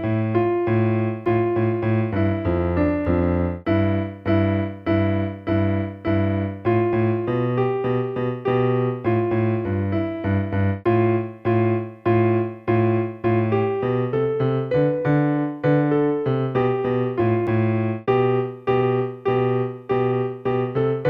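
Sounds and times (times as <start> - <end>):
electronic keyboard piano melody: 0.0 - 21.0.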